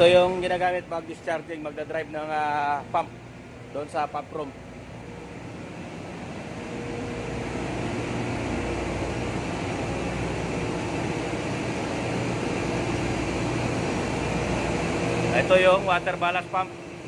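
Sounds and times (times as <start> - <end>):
engine room machinery hum: 0.0 - 17.0.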